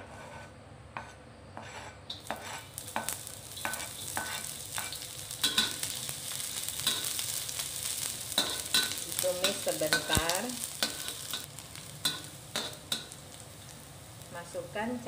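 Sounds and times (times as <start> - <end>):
metal spatula scraping a wok: 0.0 - 13.6
onion sizzling in hot oil: 2.1 - 15.0.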